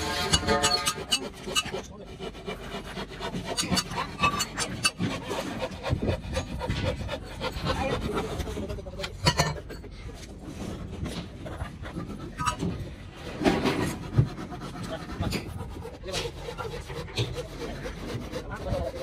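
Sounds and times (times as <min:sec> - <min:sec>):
hand tools knocking and scraping: 0:00.0 - 0:19.0.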